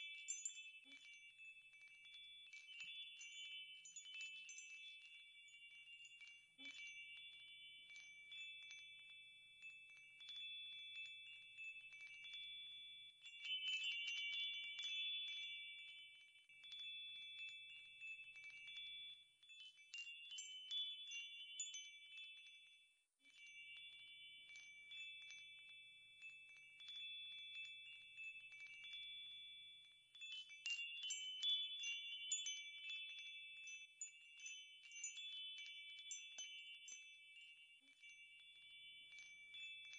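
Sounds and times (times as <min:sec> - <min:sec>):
faint wind chimes ringing: 0:00.0 - 0:39.9.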